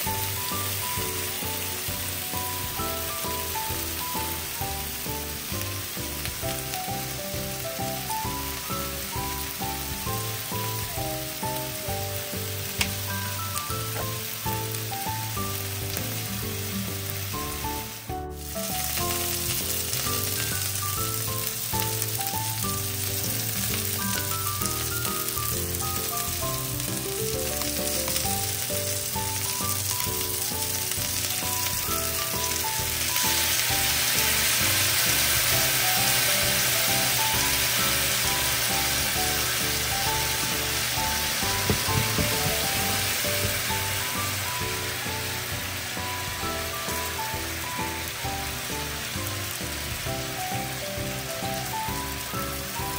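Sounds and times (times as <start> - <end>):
light background music: 0.0 - 52.9
skewers sizzling in a frying pan: 0.0 - 52.9.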